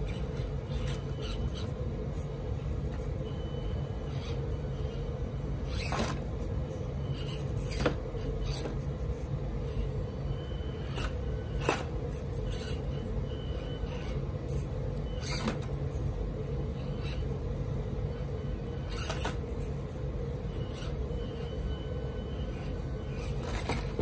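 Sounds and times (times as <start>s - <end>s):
small motor and gearbox whining: 0.0s - 24.0s.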